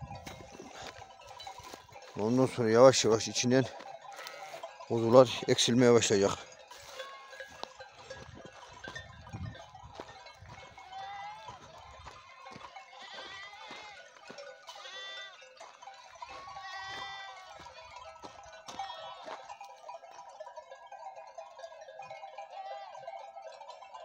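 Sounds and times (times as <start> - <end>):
sheep and lambs bleating: 0.0 - 19.9, 22.1 - 23.2.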